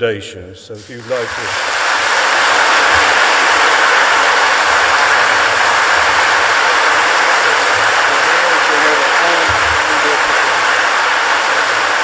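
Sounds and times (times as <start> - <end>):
audience applauding: 0.8 - 12.0.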